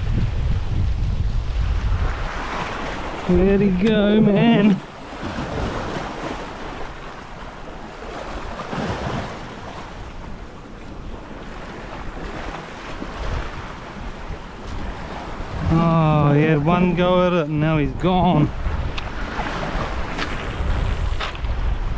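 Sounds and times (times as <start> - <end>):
wind buffeting microphone: 0.0 - 21.9
waves washing against rocks: 2.0 - 21.9.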